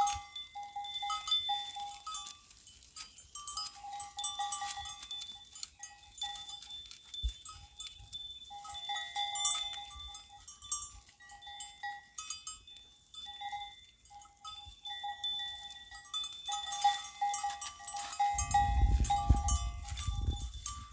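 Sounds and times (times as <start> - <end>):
small metal bell clinking: 0.0 - 20.9.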